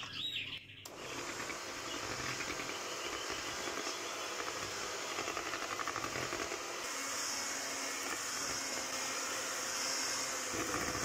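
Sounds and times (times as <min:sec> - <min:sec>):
electric hand mixer whisking batter: 0:00.9 - 0:11.0.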